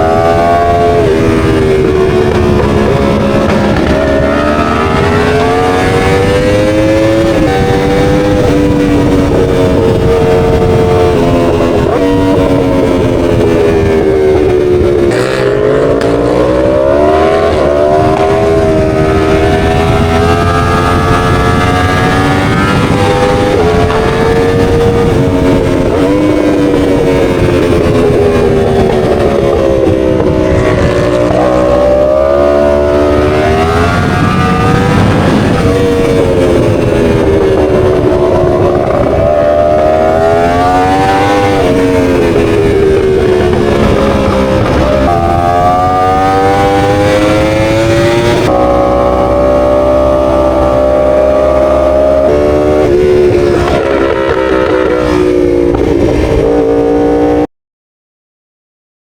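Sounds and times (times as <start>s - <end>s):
motorcycle engine revving: 0.0s - 57.5s.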